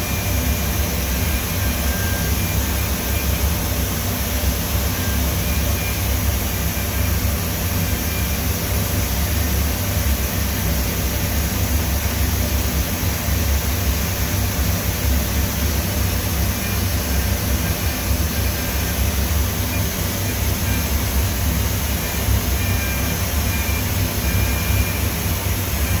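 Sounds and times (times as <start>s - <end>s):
milling machine running: 0.0s - 26.0s.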